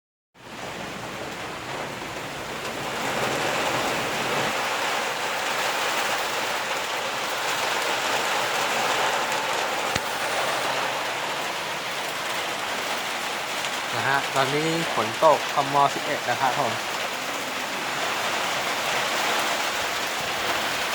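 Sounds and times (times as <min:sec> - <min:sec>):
heavy rain hissing: 0:00.7 - 0:20.9.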